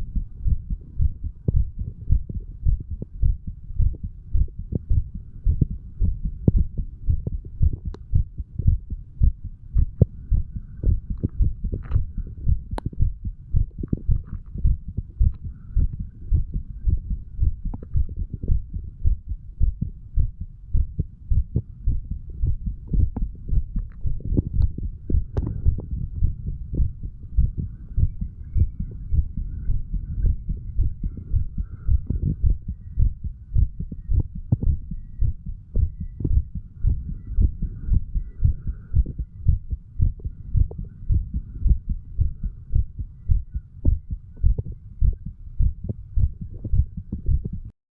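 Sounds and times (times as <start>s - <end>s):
heartbeat thumps: 0.0s - 47.7s.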